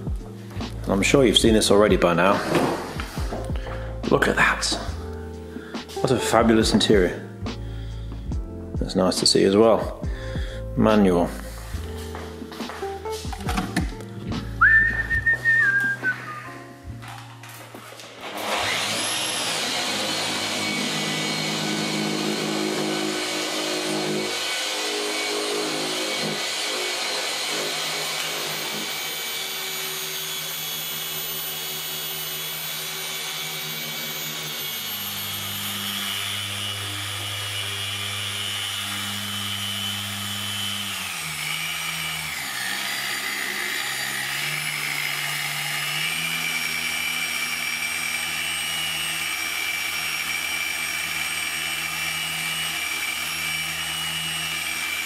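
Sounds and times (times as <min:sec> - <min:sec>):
dual-action polisher running: 0:00.1 - 0:05.0, 0:11.6 - 0:55.0.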